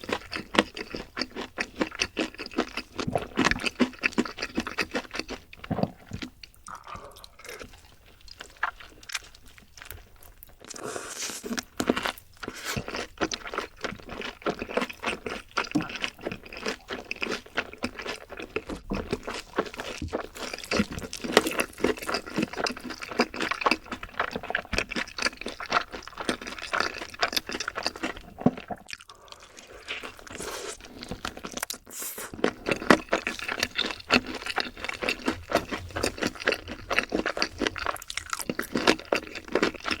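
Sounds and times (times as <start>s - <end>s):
chewing crispy fried chicken: 0.0s - 40.0s.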